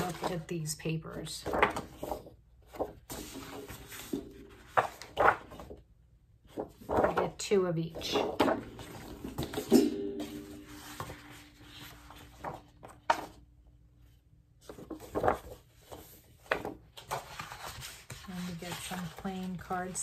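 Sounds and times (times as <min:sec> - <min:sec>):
paper rustling and flapping: 0:00.0 - 0:00.6, 0:01.2 - 0:13.5, 0:14.6 - 0:20.0.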